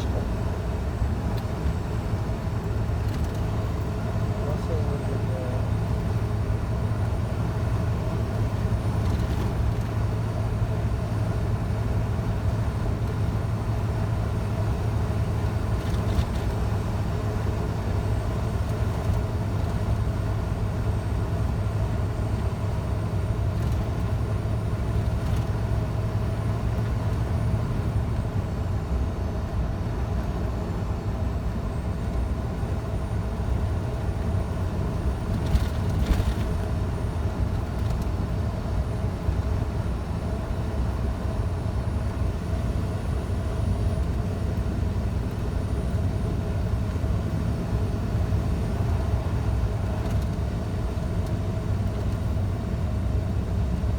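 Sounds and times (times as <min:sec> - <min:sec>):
road noise: 0:00.0 - 0:53.9
truck diesel engine cruising: 0:00.0 - 0:53.9.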